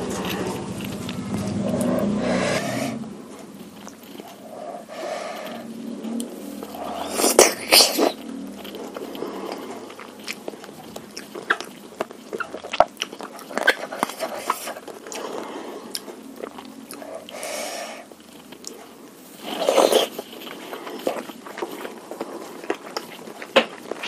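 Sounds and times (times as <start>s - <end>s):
close chewing with wet mouth clicks: 3.4s - 24.0s.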